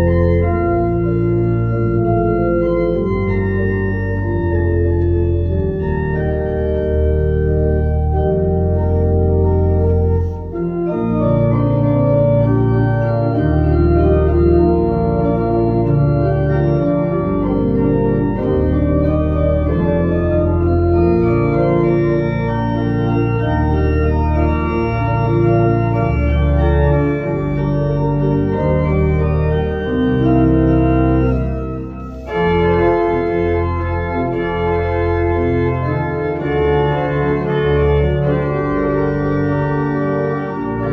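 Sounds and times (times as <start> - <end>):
church organ playing pop medley: 0.0 - 40.9.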